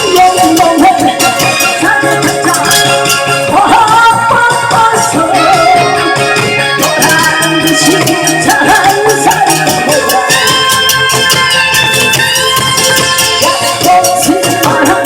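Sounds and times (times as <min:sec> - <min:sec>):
shaker percussion beat: 0:00.0 - 0:04.1, 0:06.8 - 0:15.0
wavering melody: 0:00.0 - 0:15.0.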